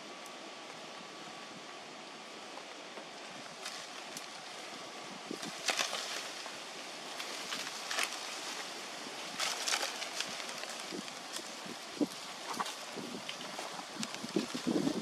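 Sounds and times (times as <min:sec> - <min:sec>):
leaves and branches rustling: 0:00.0 - 0:15.0
steady outdoor hiss: 0:00.0 - 0:15.0.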